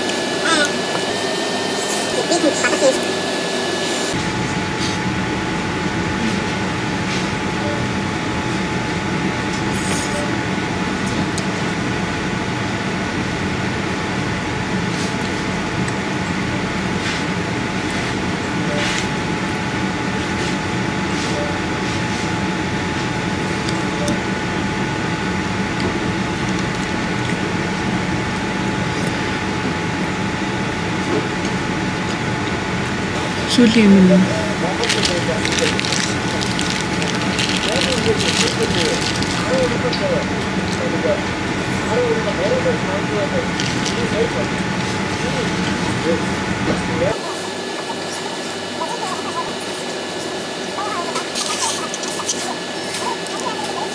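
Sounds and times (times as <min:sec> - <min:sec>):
droning room noise: 0:00.0 - 0:53.9
faint constant hum: 0:04.1 - 0:53.9.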